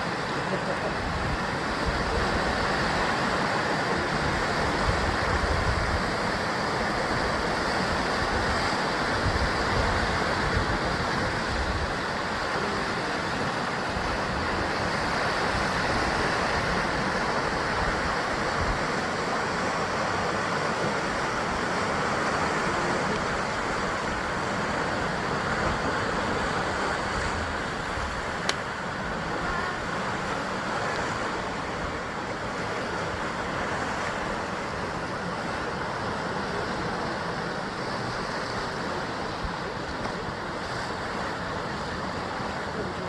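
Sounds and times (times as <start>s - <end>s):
waves washing against rocky cliffs: 0.0s - 43.0s.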